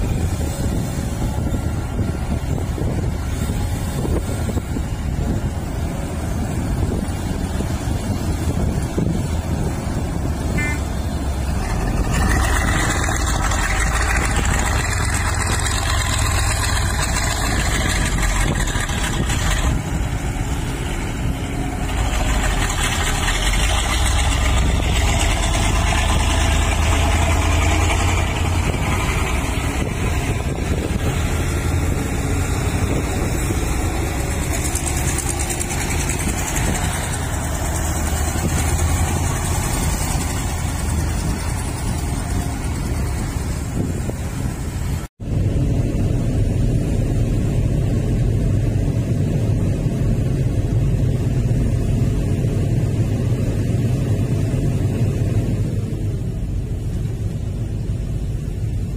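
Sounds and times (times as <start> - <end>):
heavy machinery diesel engines droning: 0.0 - 58.9.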